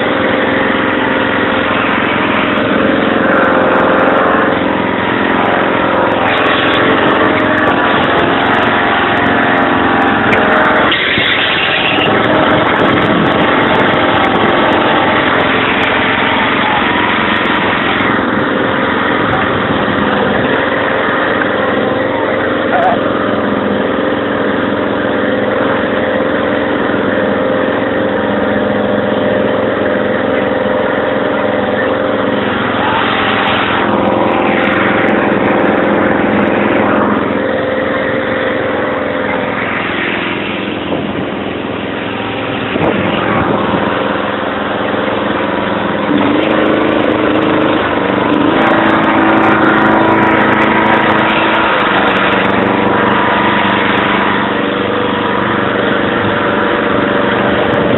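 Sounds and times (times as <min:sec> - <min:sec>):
riding mower engine running: 0:00.0 - 0:57.9.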